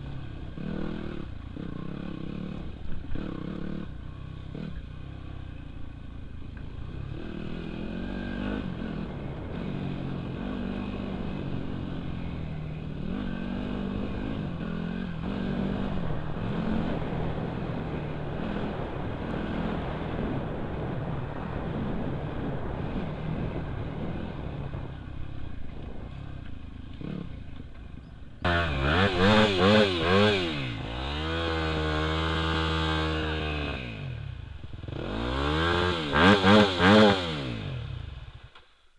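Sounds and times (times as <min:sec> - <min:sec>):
dirt bike engine revving: 0:00.0 - 0:05.4, 0:06.8 - 0:27.6, 0:28.4 - 0:38.6.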